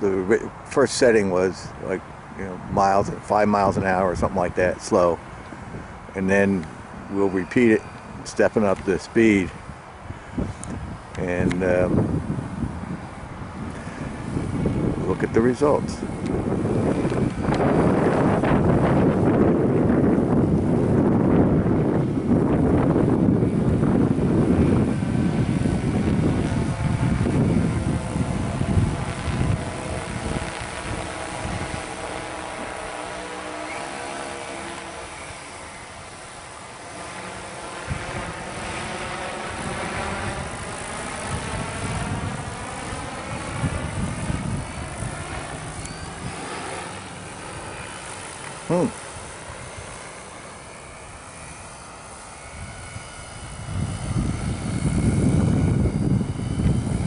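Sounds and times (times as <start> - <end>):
drone propellers humming: 0.0 - 57.0
wind buffeting microphone: 0.0 - 57.0.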